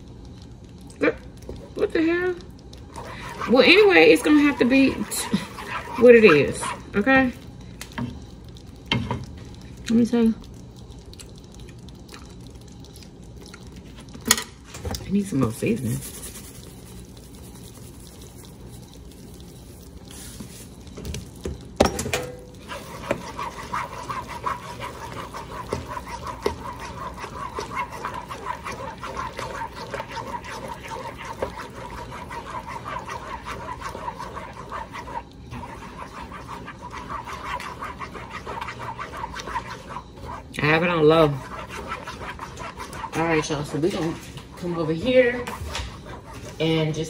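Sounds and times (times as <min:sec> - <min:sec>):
sauce stirred in metal pan: 0:00.0 - 0:47.0.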